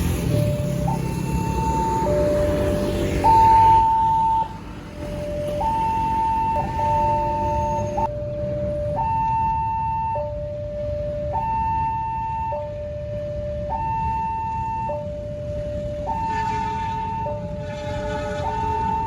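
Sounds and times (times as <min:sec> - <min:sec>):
level crossing two-tone alarm: 0:00.0 - 0:19.0
further warning tones: 0:00.2 - 0:19.0.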